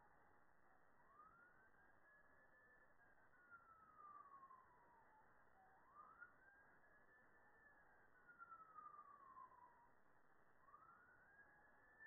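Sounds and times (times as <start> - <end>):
faint emergency vehicle siren wailing: 0.0 - 12.0.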